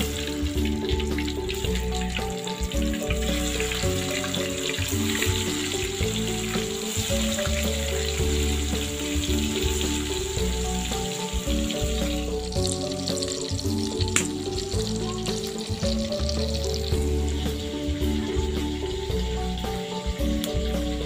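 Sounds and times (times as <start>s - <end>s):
background music: 0.0s - 21.0s
tofu frying in hot oil: 0.0s - 21.0s.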